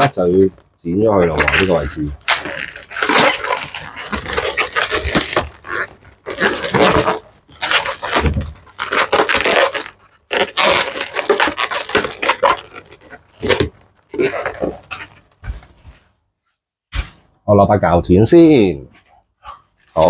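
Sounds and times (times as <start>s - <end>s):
balloons squeaking and rubbing: 0.0s - 16.2s, 18.9s - 20.0s.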